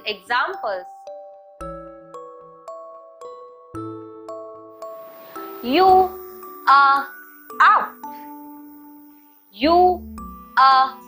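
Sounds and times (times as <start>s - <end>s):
light chiming melody: 0.0s - 11.0s.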